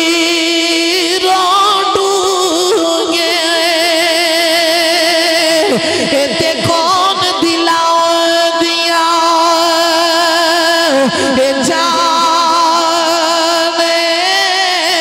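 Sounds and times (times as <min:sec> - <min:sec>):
man singing melismatic verse: 0:00.0 - 0:15.0.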